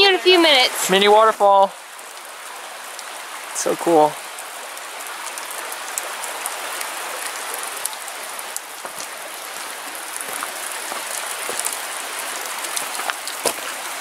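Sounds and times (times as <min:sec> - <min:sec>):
sharp water drips: 0:00.0 - 0:14.0
small waterfall splashing: 0:00.0 - 0:14.0.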